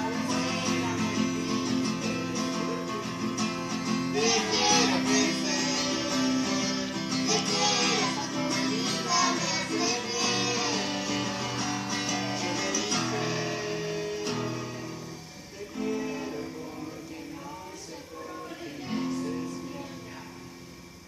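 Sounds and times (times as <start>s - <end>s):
acoustic guitar strumming: 0.0s - 21.0s
voices singing: 0.0s - 21.0s.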